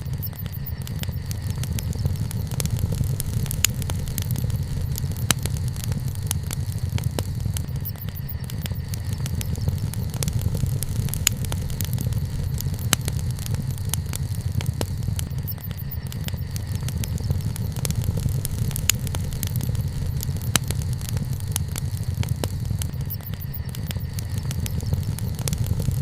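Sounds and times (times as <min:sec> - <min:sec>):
campfire crackles and pops: 0:00.0 - 0:26.0
low rumble: 0:00.0 - 0:26.0.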